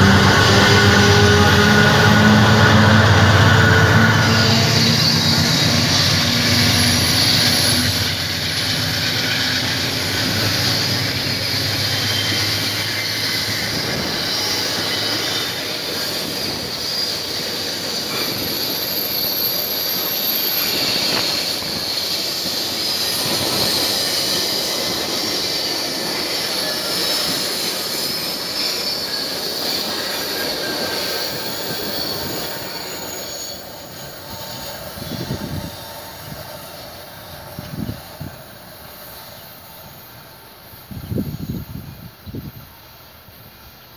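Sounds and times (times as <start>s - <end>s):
high wheel squeal: 0.0s - 43.9s
train wheels rumbling on rails: 0.0s - 43.9s.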